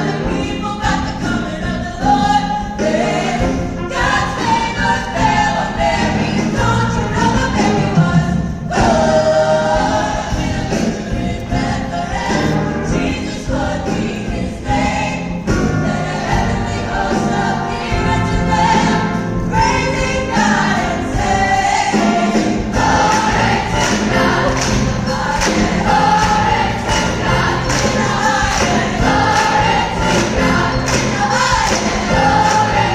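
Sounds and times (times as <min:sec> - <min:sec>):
accompanying music: 0:00.0 - 0:32.9
choir singing: 0:00.0 - 0:32.9.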